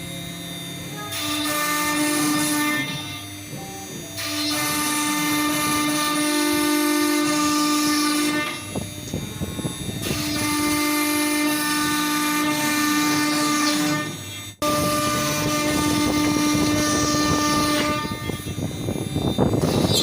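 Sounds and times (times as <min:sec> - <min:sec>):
rough choppy cutting noise: 0:00.0 - 0:20.0
router spindle whine: 0:00.0 - 0:20.0.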